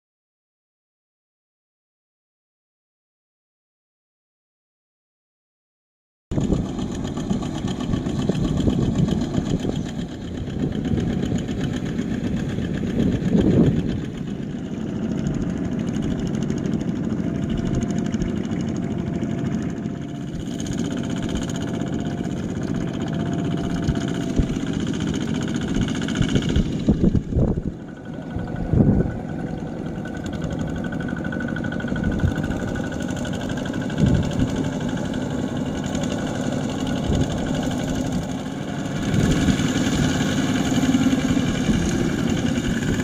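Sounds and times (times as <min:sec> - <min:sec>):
diesel tractor engine running: 0:06.4 - 0:43.0.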